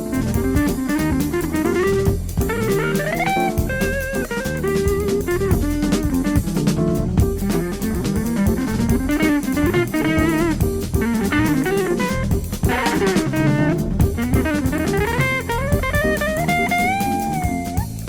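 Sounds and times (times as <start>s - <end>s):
easy-listening instrumental music: 0.0s - 18.0s.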